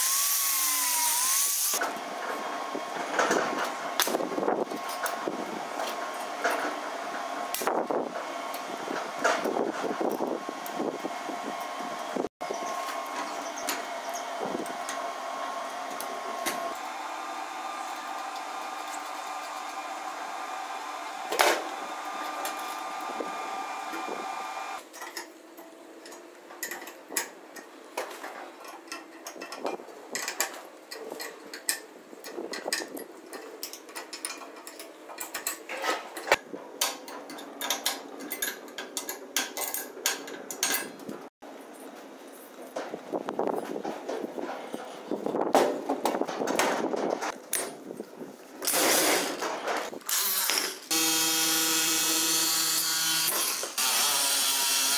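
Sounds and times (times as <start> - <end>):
mechanical hum: 0.0 - 54.9.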